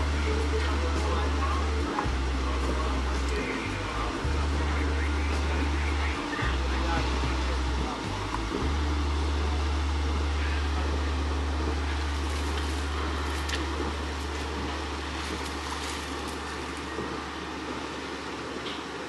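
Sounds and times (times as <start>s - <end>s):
boat machinery droning: 0.0s - 19.0s.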